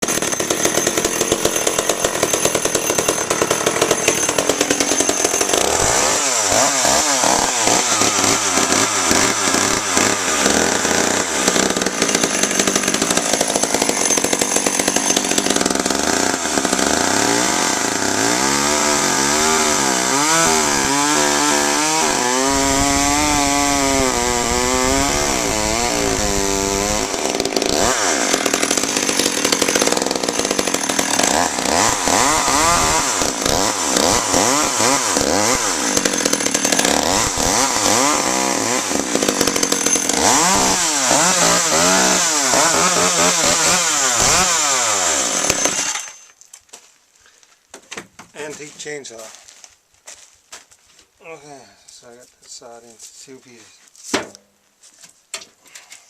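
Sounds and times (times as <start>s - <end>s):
chainsaw cutting log: 0.0s - 46.4s.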